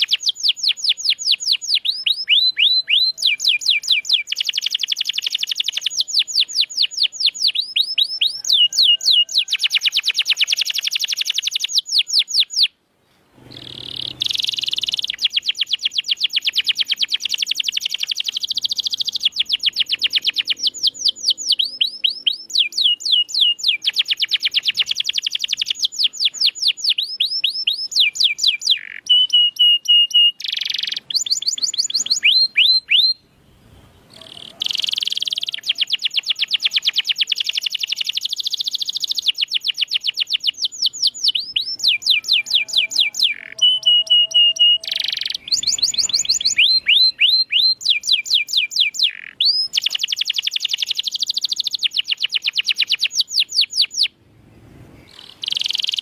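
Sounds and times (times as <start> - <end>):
canary singing trills: 0.0 - 12.8, 13.4 - 33.4, 34.0 - 54.2, 55.0 - 56.0.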